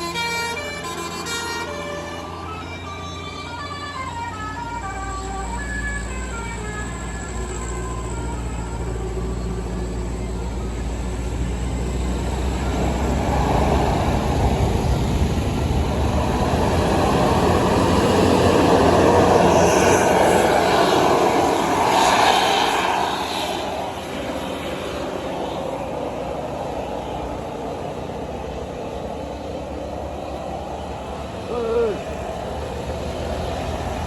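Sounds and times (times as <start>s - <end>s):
bus driving past: 0.0s - 34.0s.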